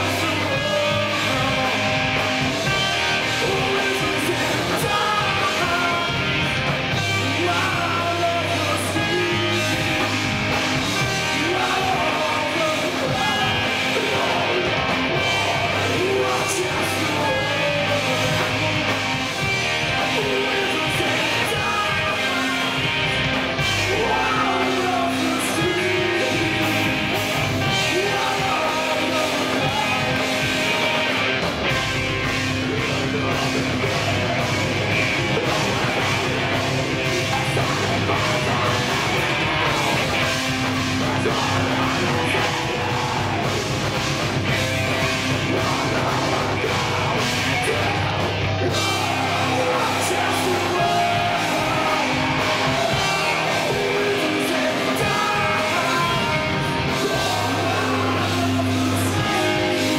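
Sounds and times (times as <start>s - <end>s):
person singing into microphone: 0.0s - 10.2s, 10.9s - 18.9s, 19.9s - 31.4s, 35.3s - 43.6s, 45.0s - 59.9s
distorted electric guitar: 0.0s - 59.9s
drums: 0.0s - 59.9s.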